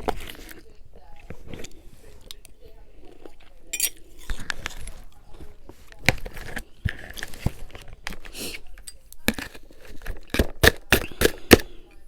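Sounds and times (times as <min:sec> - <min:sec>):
crunching frost while chewing: 0:00.0 - 0:11.9.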